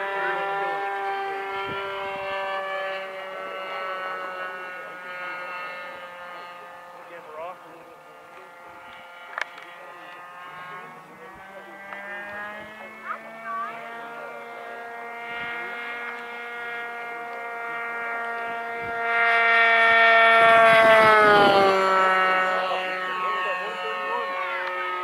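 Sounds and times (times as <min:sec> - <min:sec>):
model airplane engine whine: 0:00.0 - 0:25.0.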